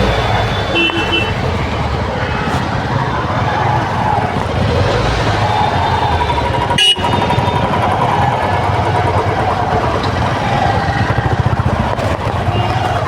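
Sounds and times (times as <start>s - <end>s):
vehicle engines idling in traffic: 0.0s - 13.0s.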